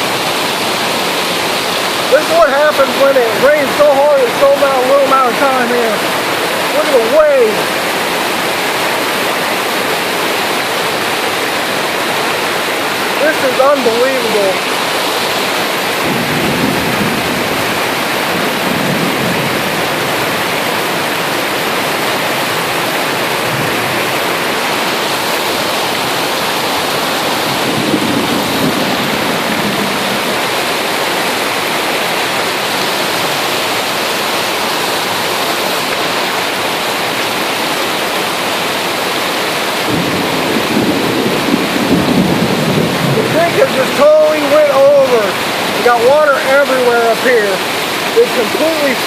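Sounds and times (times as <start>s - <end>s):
rushing floodwater: 0.0s - 49.0s.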